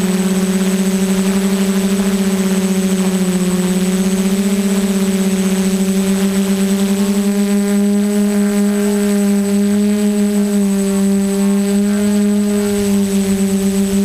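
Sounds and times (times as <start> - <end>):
quadcopter motors droning: 0.0 - 14.0
thin high whine: 0.0 - 14.0.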